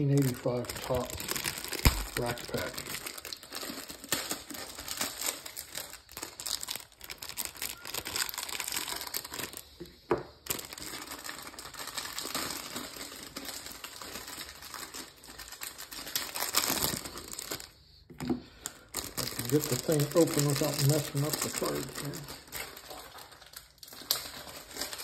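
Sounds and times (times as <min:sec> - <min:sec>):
plastic wrapper crinkling: 0:00.0 - 0:25.0.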